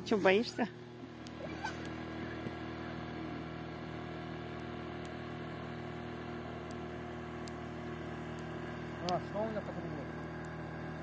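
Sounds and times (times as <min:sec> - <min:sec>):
outboard engine droning: 0:00.0 - 0:11.0.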